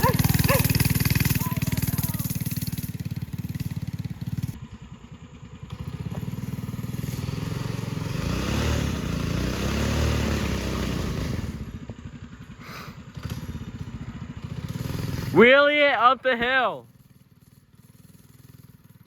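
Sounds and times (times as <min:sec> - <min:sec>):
small gas engine revving: 0:00.0 - 0:15.7.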